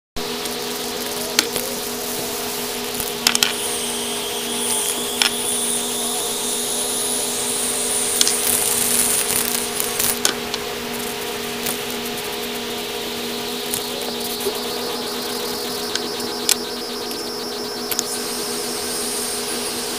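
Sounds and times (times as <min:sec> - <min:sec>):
steady mechanical hum: 0:00.2 - 0:19.9
spray-paint cans hissing: 0:00.3 - 0:16.6.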